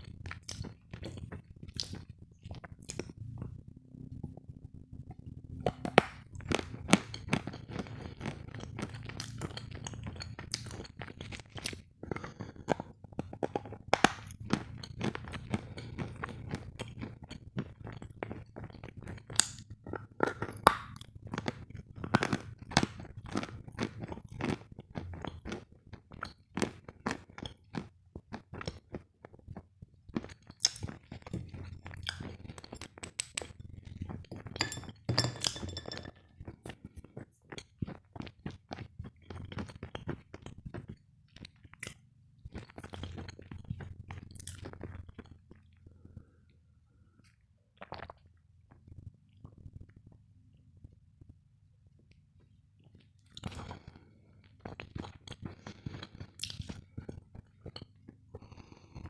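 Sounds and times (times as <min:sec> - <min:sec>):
sugar lumps crunching when chewed: 0:00.0 - 0:36.1, 0:36.8 - 0:45.8, 0:52.9 - 0:59.0.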